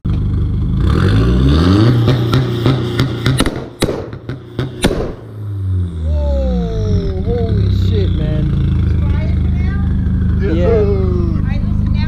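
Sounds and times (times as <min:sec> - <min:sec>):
car engine revving: 0:00.1 - 0:12.0
sharp exhaust bangs: 0:00.1 - 0:12.0.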